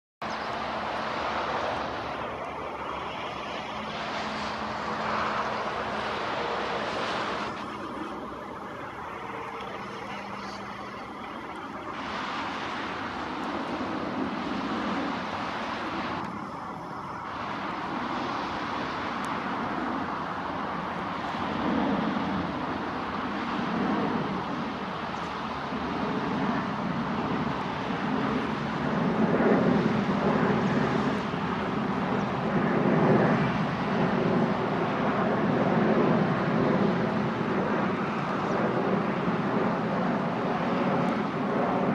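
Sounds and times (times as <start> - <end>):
jet airliner landing: 0.2 - 41.9.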